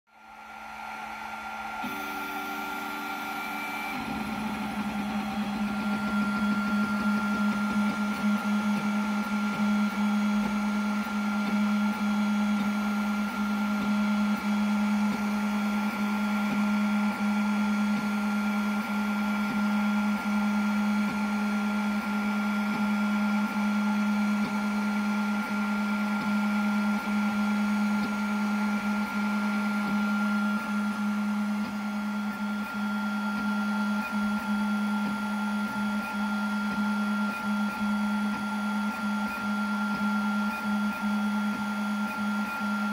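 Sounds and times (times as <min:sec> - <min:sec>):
laser engraver hum: 0:00.1 - 0:42.9.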